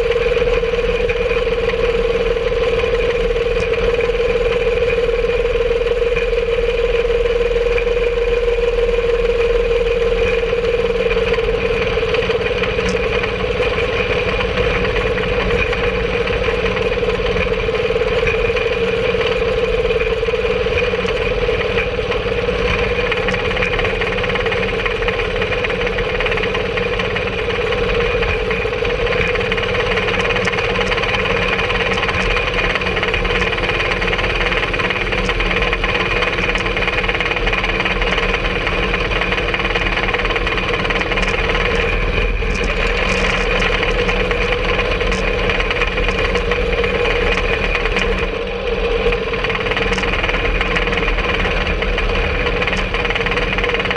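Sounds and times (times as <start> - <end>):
rail cart engine humming: 0.0 - 53.9.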